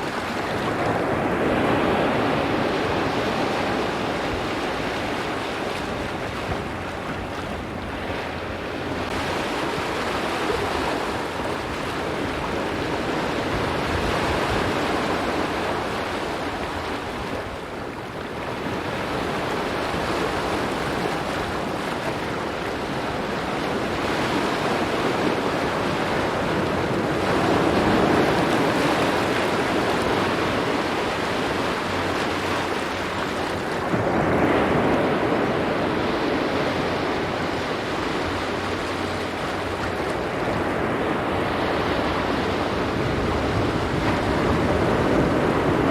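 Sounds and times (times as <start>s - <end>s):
waves breaking on rocky shore: 0.0s - 45.9s
wind buffeting microphone: 0.0s - 45.9s.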